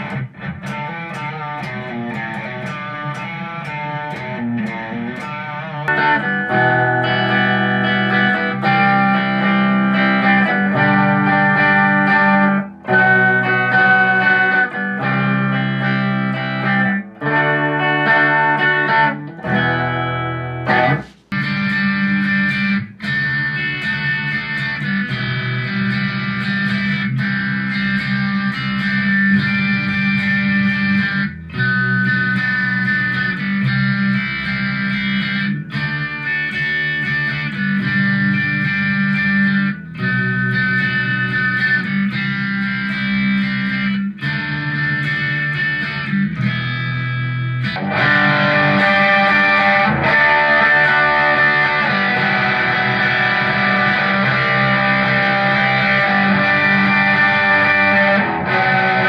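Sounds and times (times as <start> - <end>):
electric guitar chords: 0.0 - 59.0.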